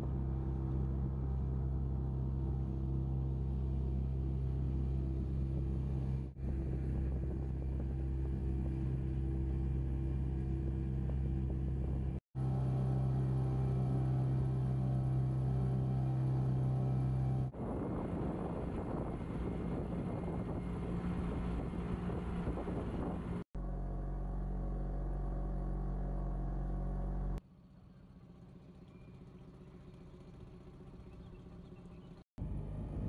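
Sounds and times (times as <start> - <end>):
boat motor droning: 0.0 - 33.0
rough noisy rumble: 0.0 - 33.0.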